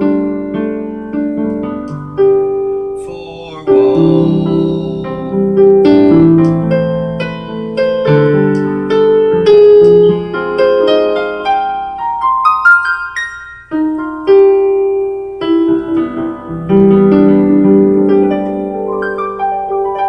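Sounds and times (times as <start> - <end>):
solo piano chords: 0.0 - 20.0.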